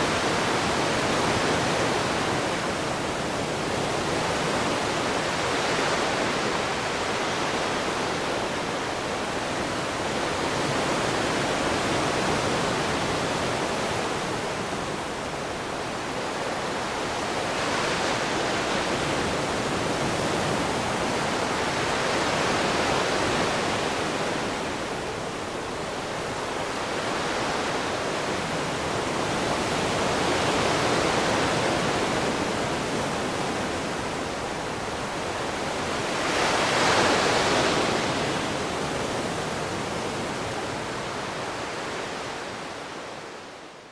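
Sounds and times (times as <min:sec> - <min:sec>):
waves washing onto shore: 0:00.0 - 0:43.9.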